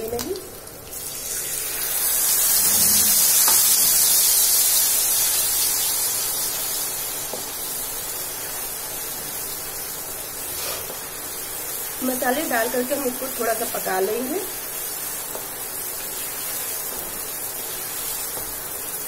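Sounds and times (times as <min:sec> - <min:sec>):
paste sizzling in hot oil: 0:00.9 - 0:19.0.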